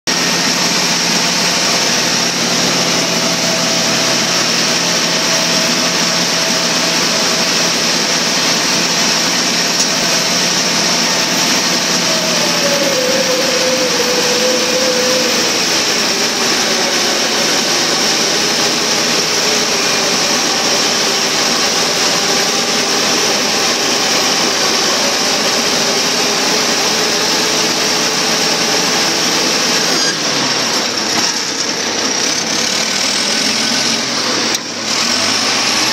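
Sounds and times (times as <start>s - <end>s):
bulldozer diesel engine running: 0.1s - 35.9s.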